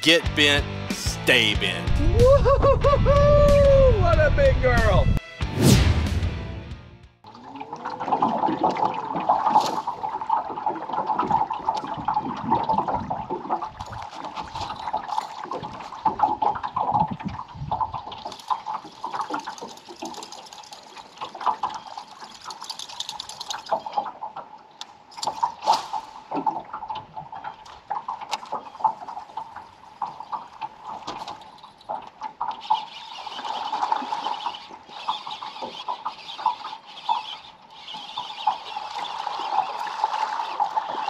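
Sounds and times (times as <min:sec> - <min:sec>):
lure blade churning water: 0:07.2 - 0:41.0.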